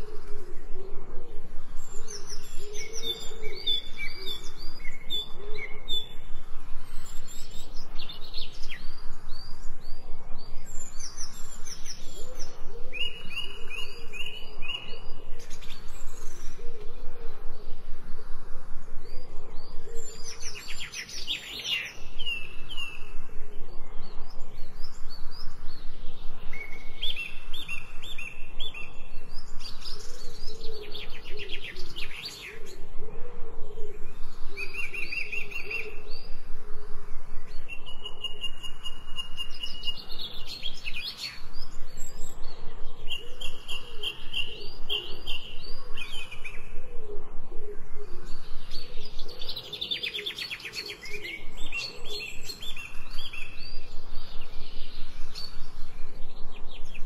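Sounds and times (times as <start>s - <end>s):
songbirds trilling: 0.0s - 57.0s.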